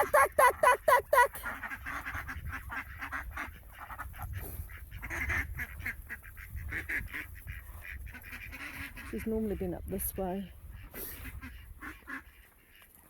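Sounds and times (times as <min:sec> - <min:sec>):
ducks quacking: 0:00.0 - 0:09.4, 0:10.7 - 0:12.9.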